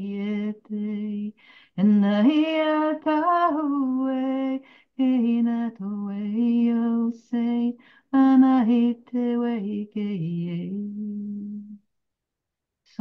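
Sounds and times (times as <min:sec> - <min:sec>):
woman singing a cappella: 0:00.0 - 0:11.8.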